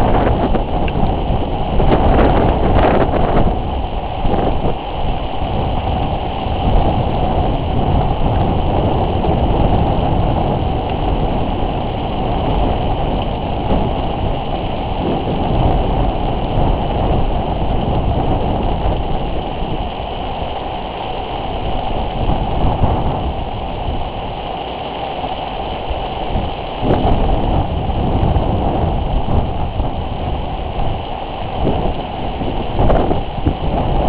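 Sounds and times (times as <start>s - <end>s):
wind blowing across microphone: 0.0s - 34.0s.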